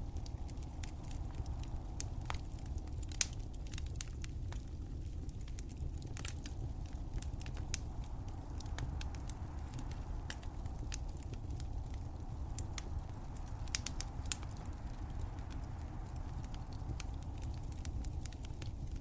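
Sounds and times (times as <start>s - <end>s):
steady low rumble: 0.0s - 19.0s
wood fire crackling: 0.0s - 19.0s.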